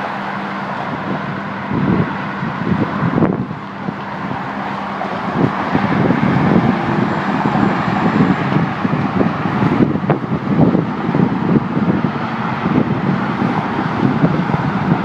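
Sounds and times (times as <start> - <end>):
road traffic rushing: 0.0 - 15.0
wind buffeting microphone: 0.0 - 15.0.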